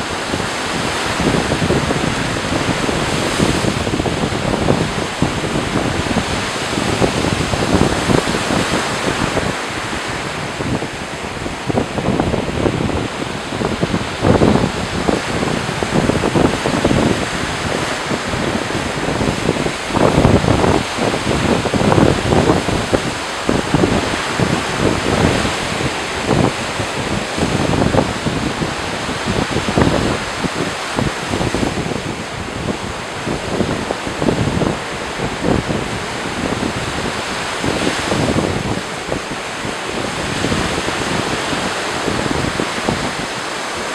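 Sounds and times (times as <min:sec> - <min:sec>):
small waves breaking on sand: 0:00.0 - 0:43.9
wind on microphone: 0:00.0 - 0:43.9.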